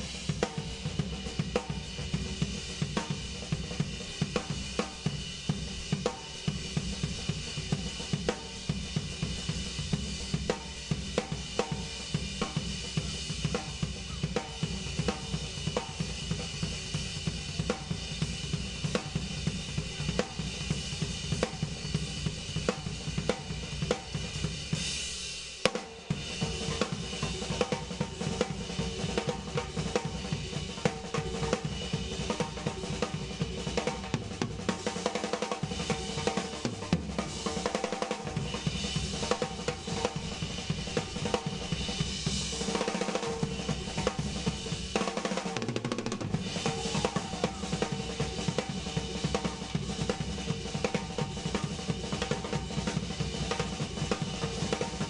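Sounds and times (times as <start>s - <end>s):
drum kit solo: 0.0s - 55.0s.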